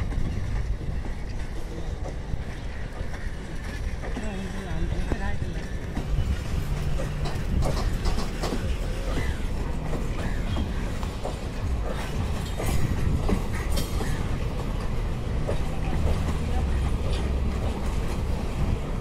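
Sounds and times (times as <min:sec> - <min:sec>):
train wheels rumbling on track: 0:00.0 - 0:19.0
wheels clicking over rail joints: 0:00.0 - 0:19.0.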